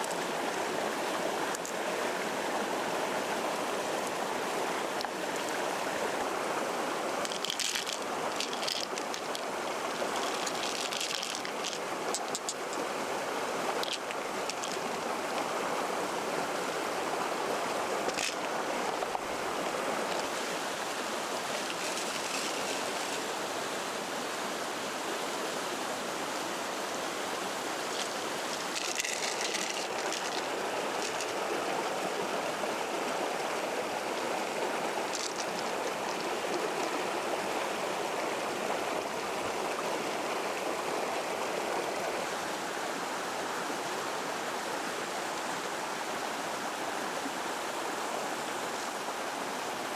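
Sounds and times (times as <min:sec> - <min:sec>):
running water: 0:00.0 - 0:49.9.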